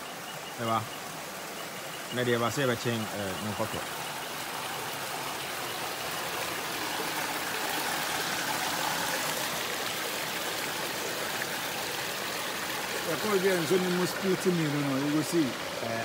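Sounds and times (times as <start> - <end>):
stream splashing over rocks: 0.0 - 16.0.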